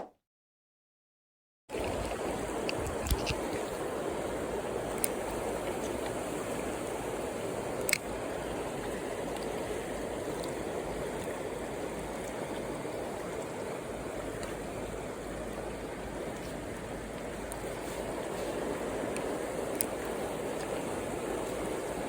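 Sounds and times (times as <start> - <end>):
stream water flowing: 1.7 - 22.0.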